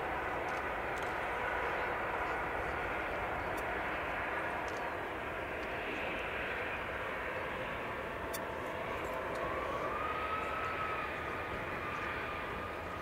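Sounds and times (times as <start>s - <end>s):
distant jet engines roaring: 0.0s - 13.0s
thin engine whine: 0.0s - 13.0s.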